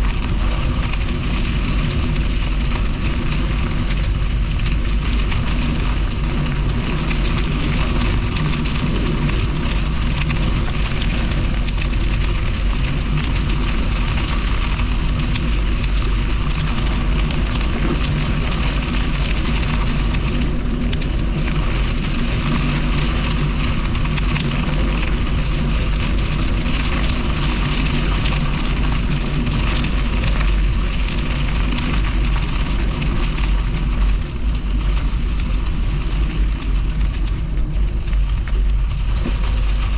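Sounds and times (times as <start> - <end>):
bicycle tyre and path noise: 0.0 - 39.9
wind rushing on microphone: 0.0 - 39.9.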